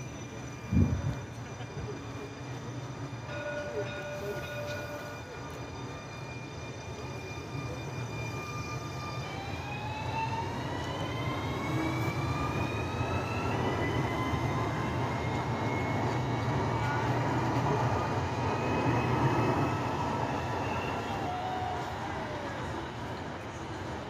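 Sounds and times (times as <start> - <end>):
tram motors whining: 0.0 - 24.0.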